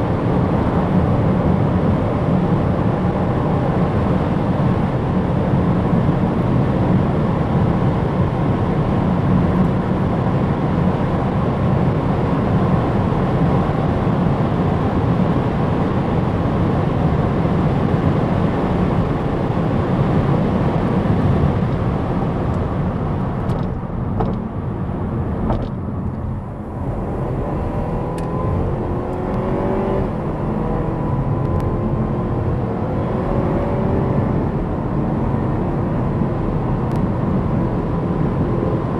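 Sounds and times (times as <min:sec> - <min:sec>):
car engine at high speed: 0:00.0 - 0:38.9.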